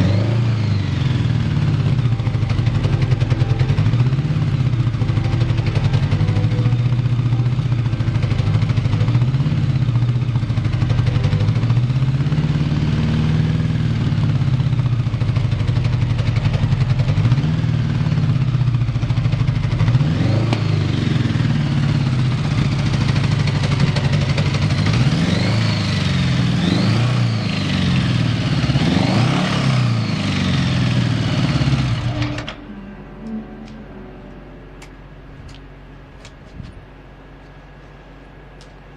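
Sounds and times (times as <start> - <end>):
motorcycle engine idling and revving: 0.0 - 32.7.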